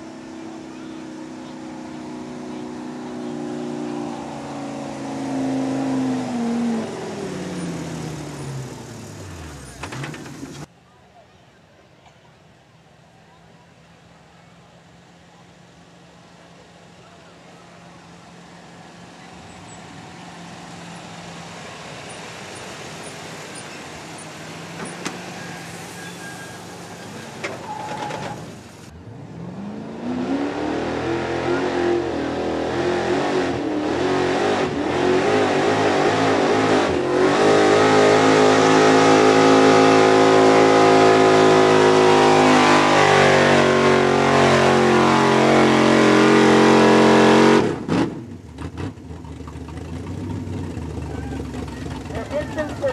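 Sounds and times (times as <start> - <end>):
vehicle engine revving under load: 0.0 - 10.7, 16.6 - 52.9.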